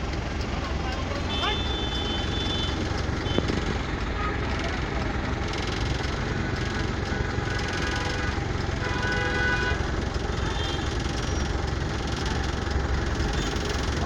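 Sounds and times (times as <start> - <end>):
road traffic noise: 0.0 - 14.0
vehicle engine running: 0.0 - 14.0.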